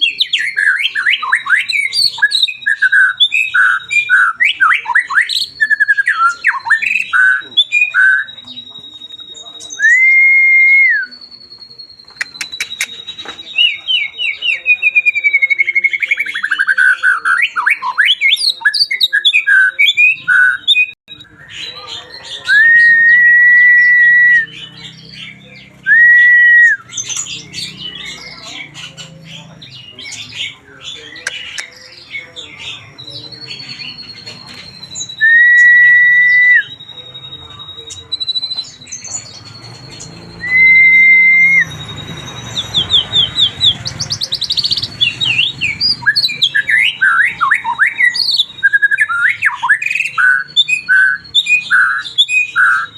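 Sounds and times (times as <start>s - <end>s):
soft bird twittering: 0.0s - 52.9s
songbird whistling and chattering: 0.0s - 52.9s.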